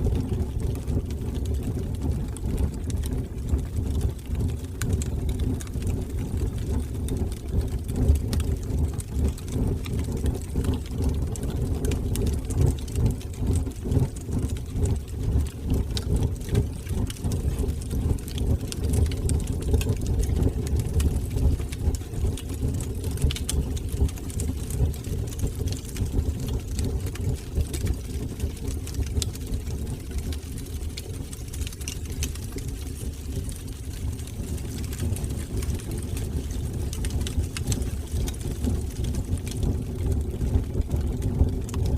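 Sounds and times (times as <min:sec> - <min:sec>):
fireplace fire crackling: 0:00.0 - 0:41.9.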